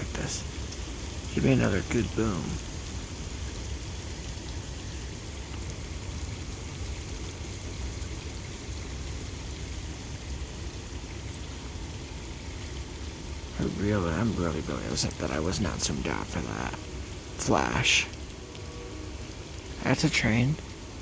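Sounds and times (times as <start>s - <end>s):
low steady rumble: 0.0s - 21.0s
rain drop ticks: 0.0s - 21.0s
rain hiss: 0.0s - 21.0s.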